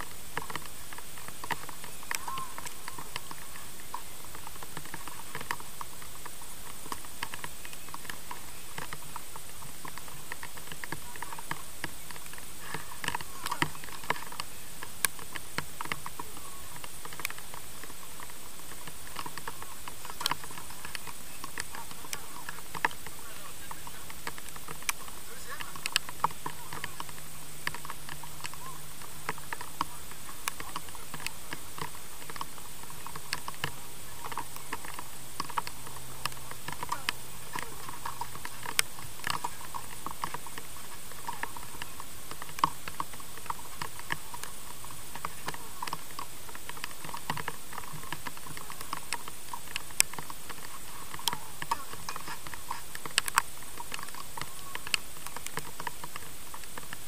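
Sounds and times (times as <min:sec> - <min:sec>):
light ticks and taps: 0:00.0 - 0:57.0
steady hiss: 0:00.0 - 0:57.0.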